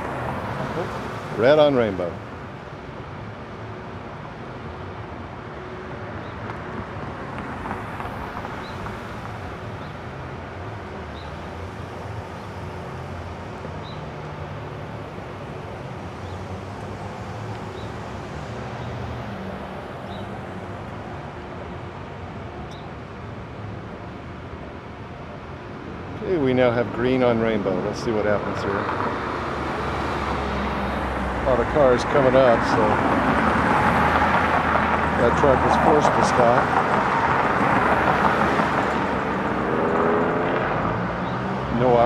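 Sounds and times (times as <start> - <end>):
traffic driving by: 0.0 - 42.0.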